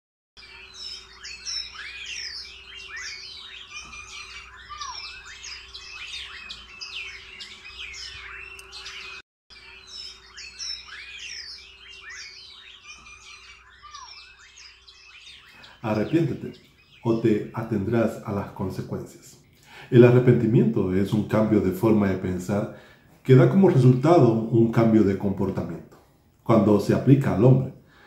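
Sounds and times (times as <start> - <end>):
birds chirping and twittering: 0.4 - 28.0.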